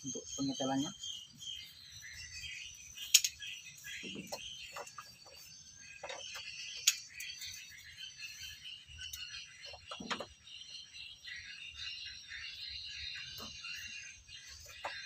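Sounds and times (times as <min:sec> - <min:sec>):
frogs and insects chorus: 0:00.0 - 0:15.0.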